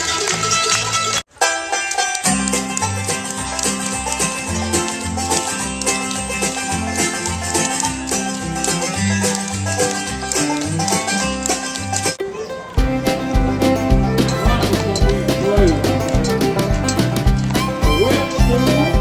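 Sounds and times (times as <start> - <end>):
bluegrass banjo music: 0.0 - 19.0.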